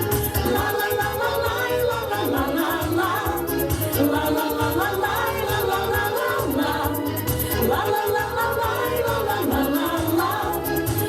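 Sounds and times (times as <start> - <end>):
bouncy pop song: 0.0 - 11.0.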